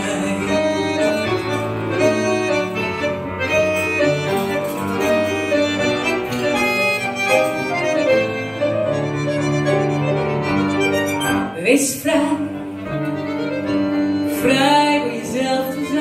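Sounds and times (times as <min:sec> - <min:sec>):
accordion: 0:00.0 - 0:16.0
grand piano: 0:00.0 - 0:16.0.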